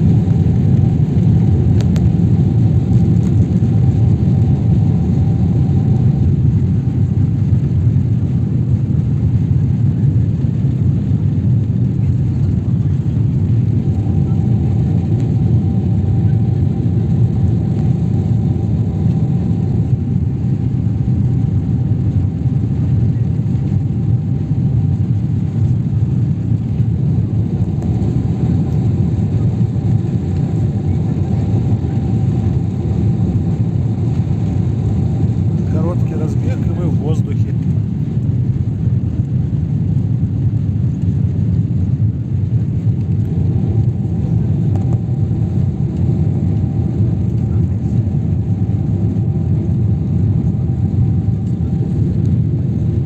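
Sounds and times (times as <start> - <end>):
airliner engines rumbling: 0.0 - 53.0
faint steady whine: 0.0 - 53.0.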